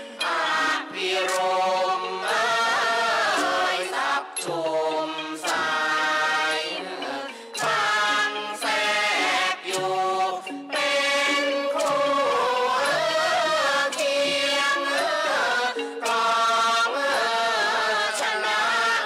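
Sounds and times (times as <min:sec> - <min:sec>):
traditional classical music: 0:00.0 - 0:19.0.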